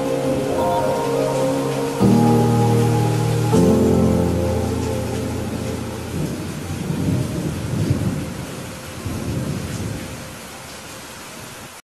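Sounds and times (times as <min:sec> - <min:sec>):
thunder rumbling: 0:00.0 - 0:10.0
steady rain hiss: 0:00.0 - 0:11.8.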